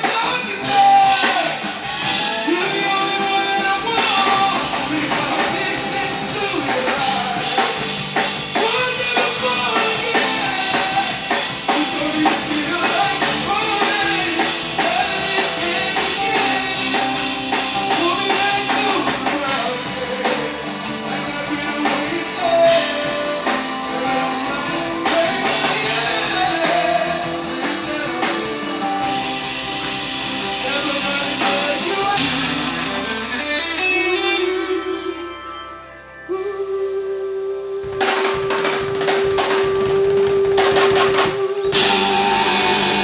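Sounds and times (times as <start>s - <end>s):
live band music: 0.0s - 43.0s
person singing: 0.0s - 43.0s.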